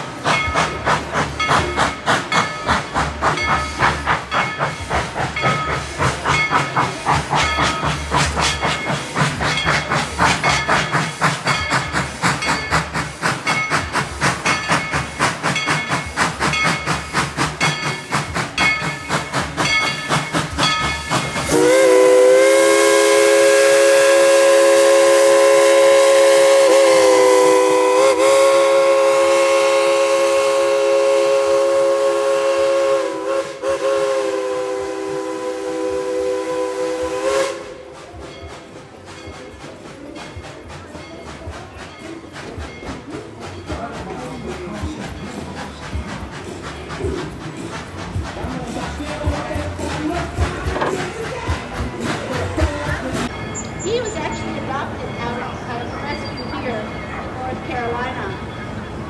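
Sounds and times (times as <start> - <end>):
steam locomotive chuffing: 0.0 - 59.0
chime steam whistle: 1.4 - 48.4, 52.6 - 54.4.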